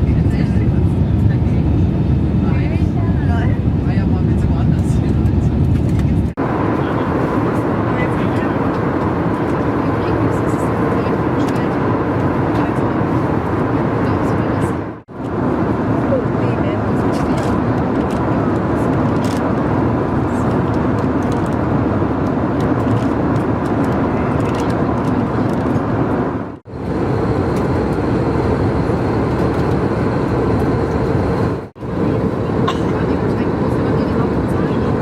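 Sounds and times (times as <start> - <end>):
aircraft cabin engine and airflow noise: 0.0 - 35.0.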